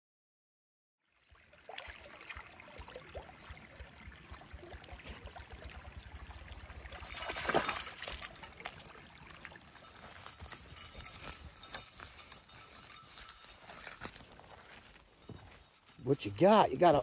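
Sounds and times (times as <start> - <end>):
water trickling: 1.0 - 17.0.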